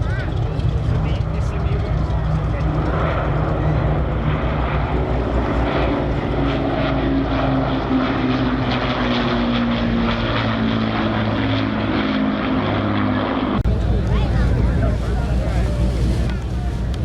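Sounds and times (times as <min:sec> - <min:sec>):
propeller warplanes droning past: 0:00.0 - 0:17.0.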